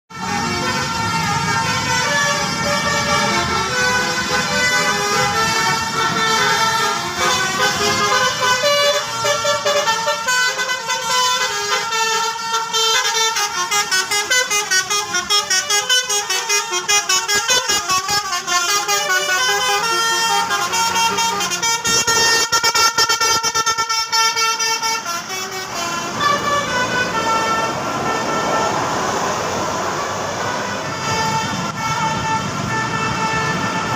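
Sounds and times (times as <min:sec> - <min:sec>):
multi-tone bus horn tune: 0:00.1 - 0:33.9.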